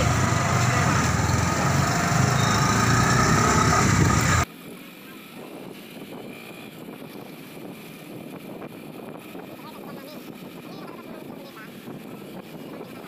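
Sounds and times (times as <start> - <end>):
road and wind noise: 0.0 - 13.0
small motorcycle engine running: 0.0 - 13.0.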